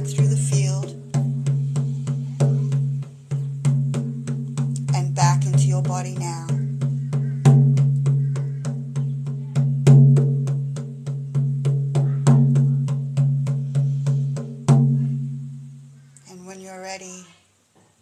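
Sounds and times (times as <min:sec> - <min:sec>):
frame drum beaten by hand: 0:00.0 - 0:16.0.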